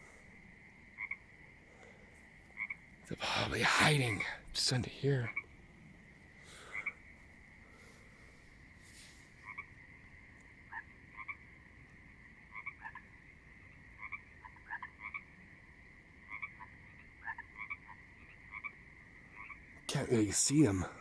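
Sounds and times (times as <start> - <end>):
frogs croaking: 0.0 - 21.0
high-pitched frog chorus: 0.0 - 21.0.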